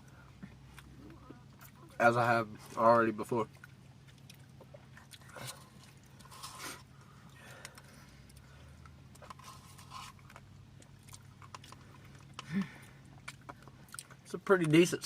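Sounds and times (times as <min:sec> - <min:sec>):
soft chewing: 0:00.0 - 0:15.0
steady low hum: 0:00.0 - 0:15.0.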